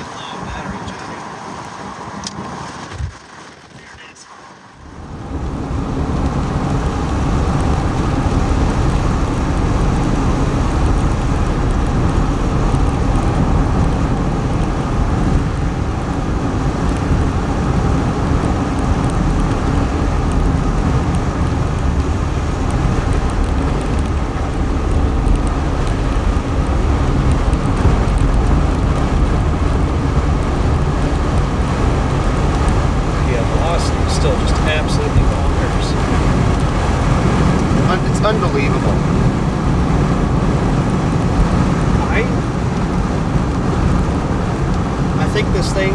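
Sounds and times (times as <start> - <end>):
car road and wind rumble: 0.0 - 45.9.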